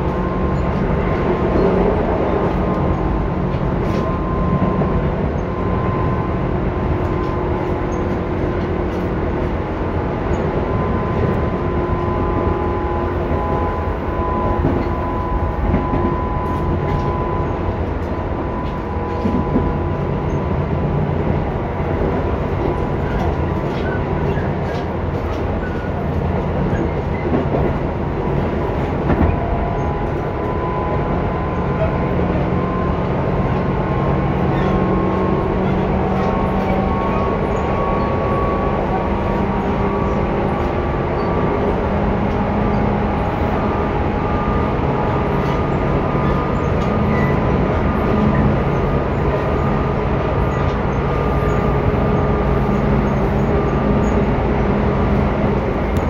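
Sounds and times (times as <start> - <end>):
train motor whine: 0.0 - 56.0
train wheels rumbling on rails: 0.0 - 56.0.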